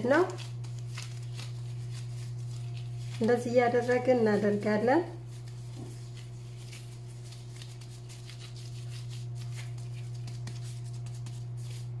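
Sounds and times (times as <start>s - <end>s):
low electrical hum: 0.0s - 12.0s
plastic gloves crinkling: 0.0s - 12.0s.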